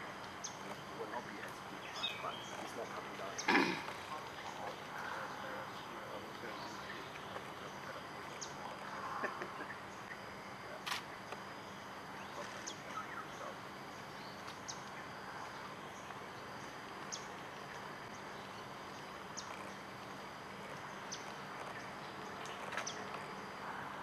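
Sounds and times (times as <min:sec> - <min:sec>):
insects humming: 0:00.0 - 0:24.0.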